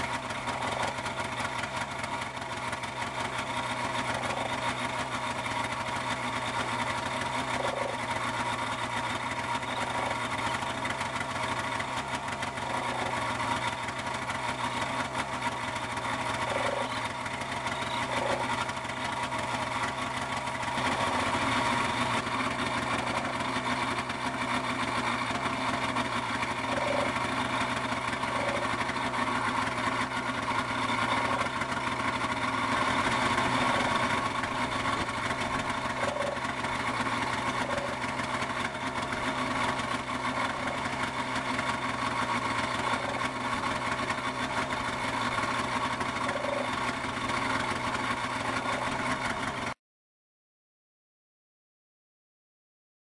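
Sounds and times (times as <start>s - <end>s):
ultralight aircraft engine running: 0.0s - 49.8s.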